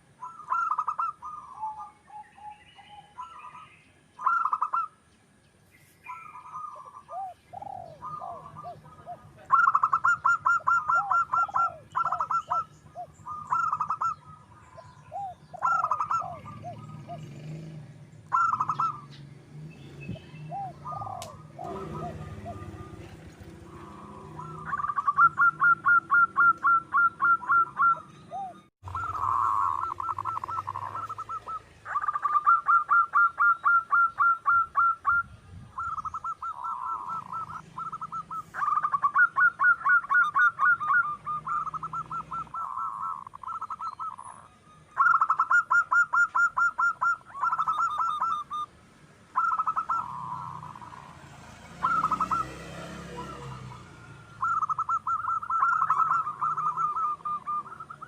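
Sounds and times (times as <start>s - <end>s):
doves cooing: 0.0s - 5.1s, 6.0s - 58.0s
small birds chirping: 0.0s - 58.0s.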